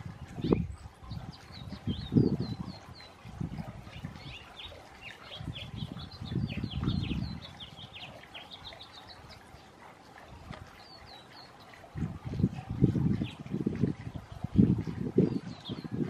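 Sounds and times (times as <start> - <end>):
low rumbling on microphone: 0.0 - 9.5, 11.8 - 16.0
small birds chirping: 0.0 - 16.0.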